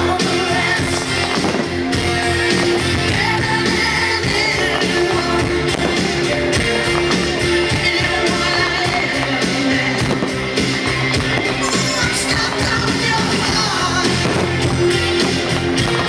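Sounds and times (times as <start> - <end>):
pop-rock music with singing: 0.0 - 16.0.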